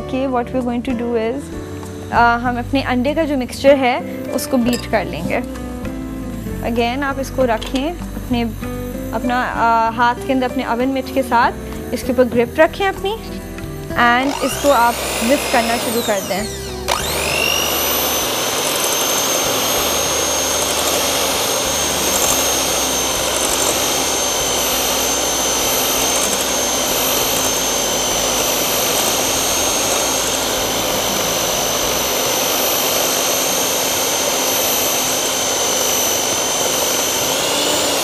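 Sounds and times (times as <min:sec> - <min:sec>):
electric hand mixer whine: 0:00.8 - 0:38.0.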